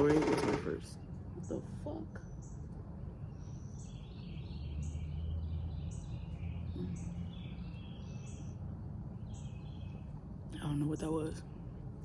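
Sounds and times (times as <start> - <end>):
bird chirping: 0.0 - 12.0
songbirds singing: 0.0 - 12.0.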